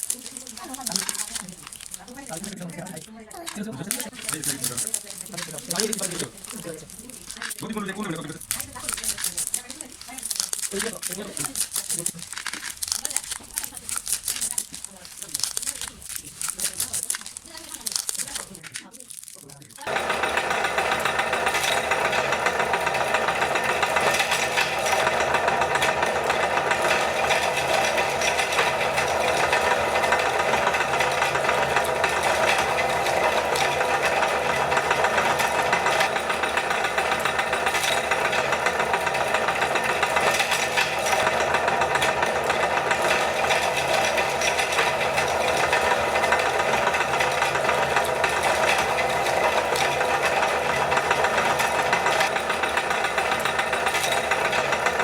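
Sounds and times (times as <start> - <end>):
electric meat grinder running: 0.0 - 18.9, 19.8 - 55.0.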